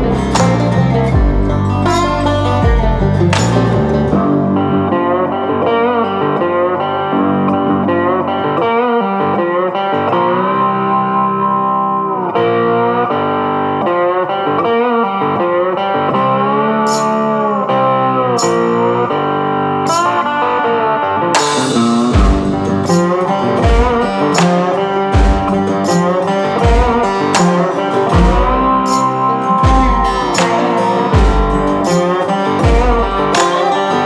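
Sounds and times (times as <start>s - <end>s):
guitar music with bending notes: 0.0s - 34.0s.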